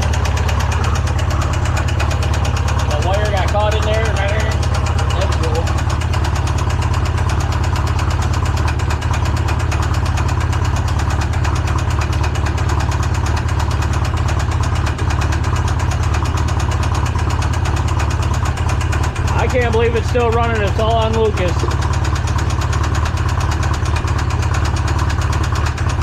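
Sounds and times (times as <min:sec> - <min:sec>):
engine idling with even knock: 0:00.0 - 0:26.0.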